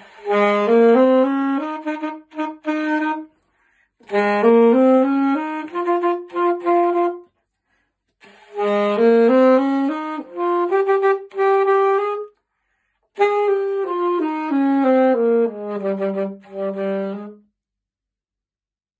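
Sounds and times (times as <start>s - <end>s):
alto saxophone melody: 0.0s - 7.5s, 8.1s - 12.5s, 13.1s - 17.6s.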